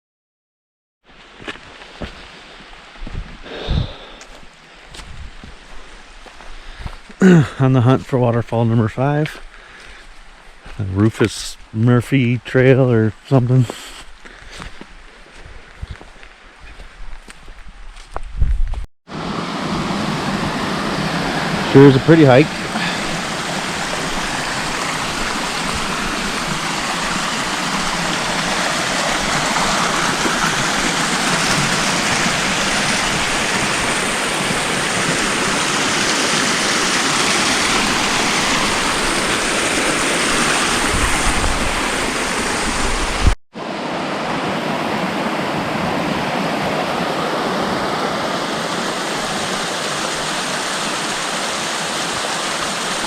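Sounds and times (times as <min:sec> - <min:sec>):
stream water rushing: 0:01.1 - 0:18.1, 0:19.1 - 0:53.0.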